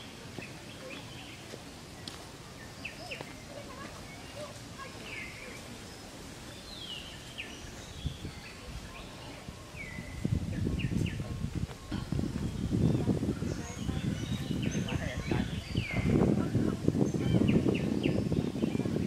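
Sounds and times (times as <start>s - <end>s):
birds chirping: 0.0s - 19.0s
outdoor background noise: 0.0s - 19.0s.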